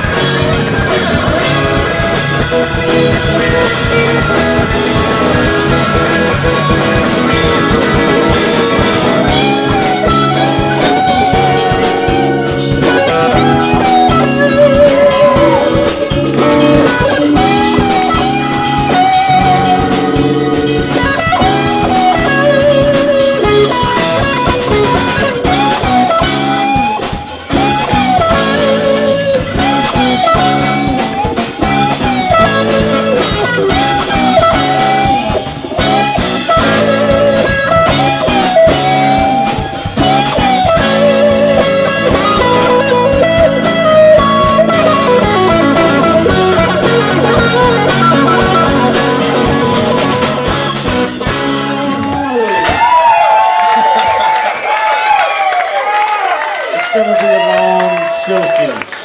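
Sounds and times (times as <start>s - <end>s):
drum kit: 0.0s - 58.6s
electric guitar solo: 0.0s - 59.0s
rock band playing: 0.0s - 59.0s.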